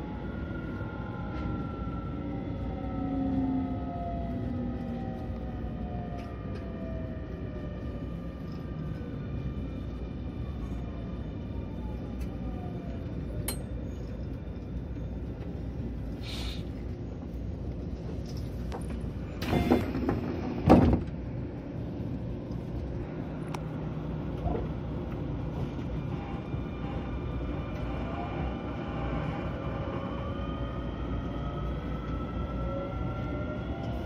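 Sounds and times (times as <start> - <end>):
train running low rumble: 0.0 - 34.0.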